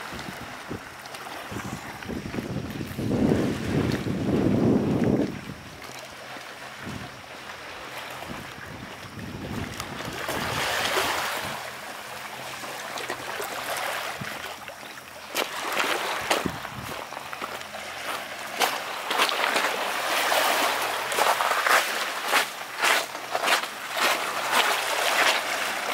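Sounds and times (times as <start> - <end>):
waves lapping on pebble shore: 0.0 - 25.9.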